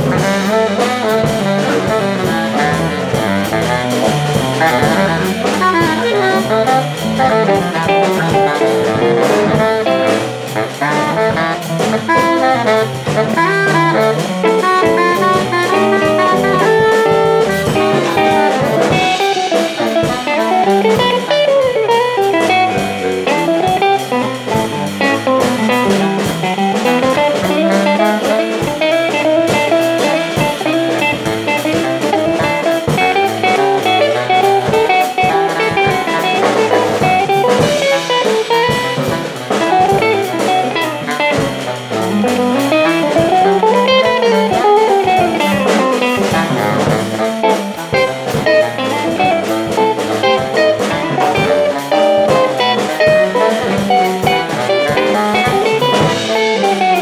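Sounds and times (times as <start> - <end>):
baritone saxophone melody: 0.0 - 57.0
cymbal-led drums: 0.0 - 57.0
jazz guitar: 0.0 - 57.0.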